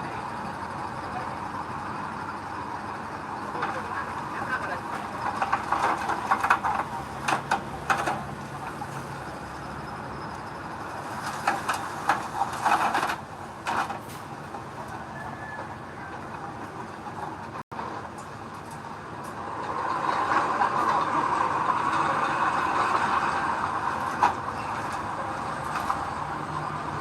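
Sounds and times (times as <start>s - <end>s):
heavy machinery engine: 0.0s - 27.0s.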